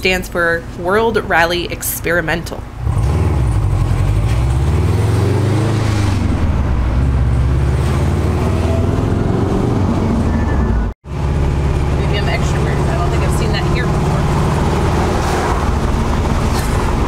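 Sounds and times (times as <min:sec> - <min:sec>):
car engine pulling: 0:02.7 - 0:17.0.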